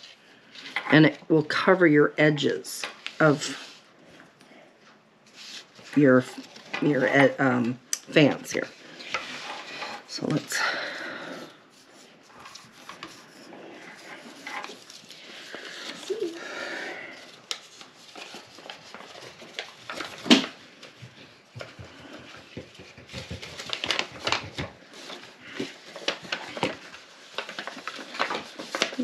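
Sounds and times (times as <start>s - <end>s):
paper rustling and scraping: 0.0s - 1.2s, 2.8s - 3.9s, 5.2s - 16.4s, 17.0s - 29.0s.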